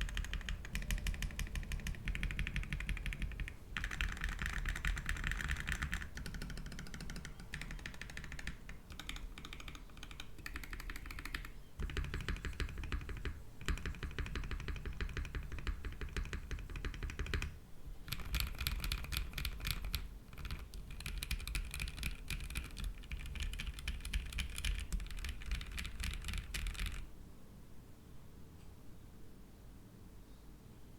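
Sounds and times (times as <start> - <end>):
mechanical keyboard typing: 0.0 - 27.1.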